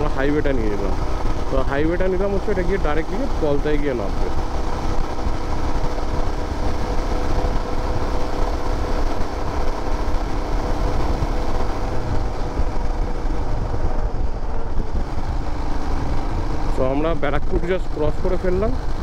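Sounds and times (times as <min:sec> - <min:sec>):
motorcycle engine rumble: 0:00.0 - 0:19.0
wind and road noise: 0:00.0 - 0:19.0.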